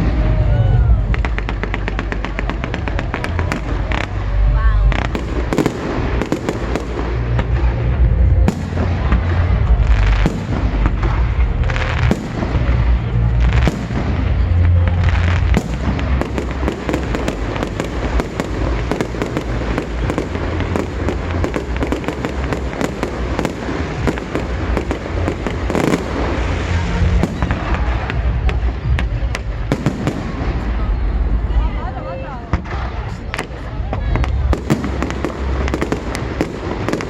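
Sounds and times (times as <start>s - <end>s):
low rumble of booms: 0.0s - 31.8s
fireworks bangs and crackles: 0.0s - 37.0s.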